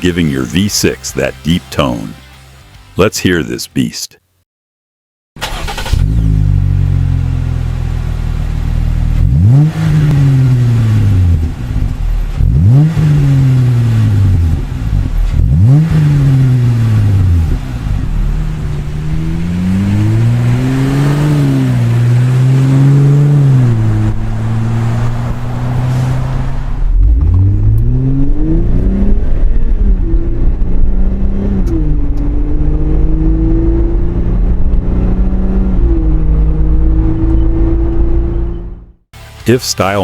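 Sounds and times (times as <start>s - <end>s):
car engine idling and revving: 5.4s - 40.0s.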